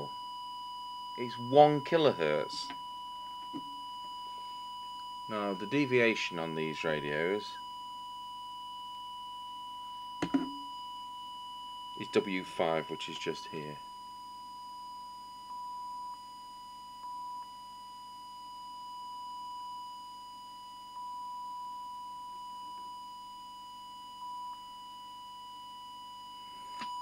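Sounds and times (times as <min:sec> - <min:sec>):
sine test tone: 0:00.0 - 0:27.0.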